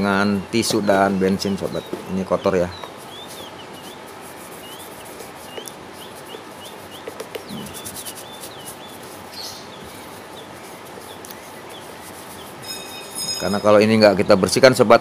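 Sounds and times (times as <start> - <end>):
bird chirping: 0.0 - 14.6
steady hiss: 0.0 - 14.9.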